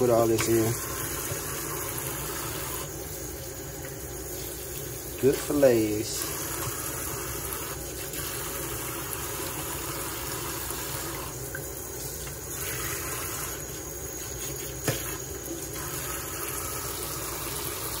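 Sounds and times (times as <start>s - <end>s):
faucet running into sink: 0.0s - 18.0s.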